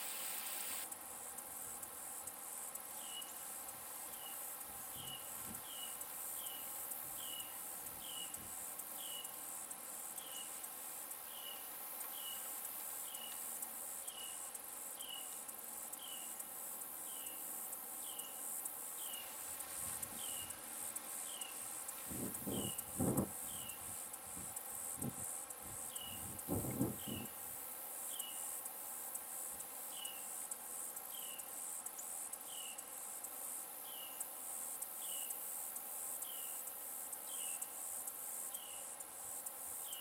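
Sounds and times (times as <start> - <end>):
high-pitched insect chorus: 0.0 - 40.0.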